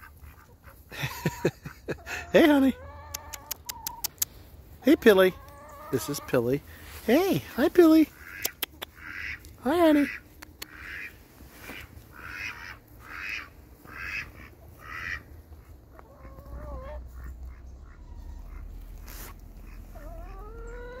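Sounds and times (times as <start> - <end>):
ducks quacking: 0.0 - 4.1, 4.8 - 21.0
farm animal calls: 0.0 - 21.0.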